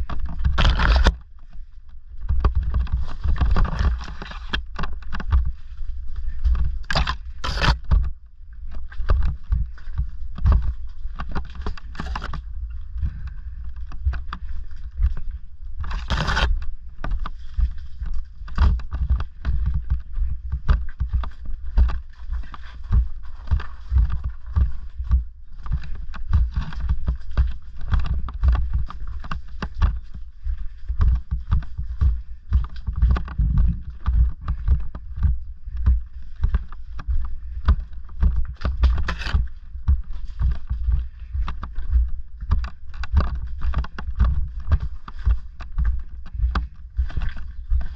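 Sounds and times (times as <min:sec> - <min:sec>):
bike rattling over rocks: 0:00.0 - 0:47.9
scrapes: 0:00.0 - 0:47.9
tyres crunching on stones: 0:00.0 - 0:47.9.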